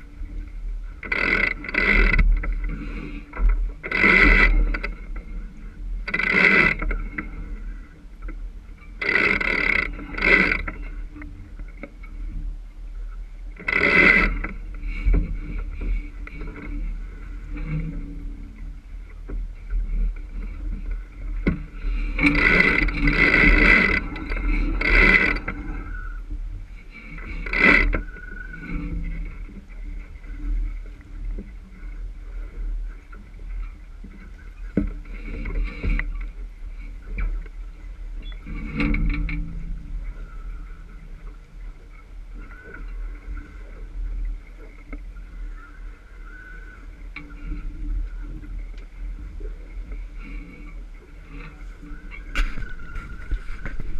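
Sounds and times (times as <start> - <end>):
water rushing along hull: 0.0 - 53.9
wind rumble on microphone: 0.0 - 53.9.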